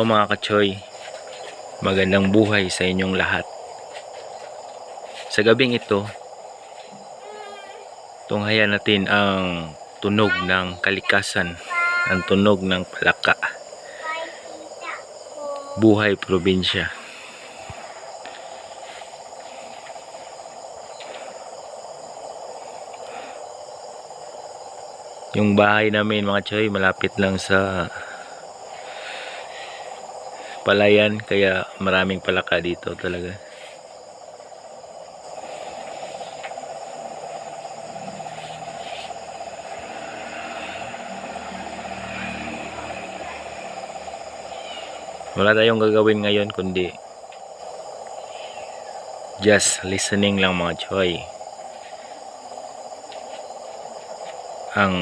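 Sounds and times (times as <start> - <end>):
faint high insect hum: 0.0 - 55.0
frogs calling in chorus: 0.0 - 55.0.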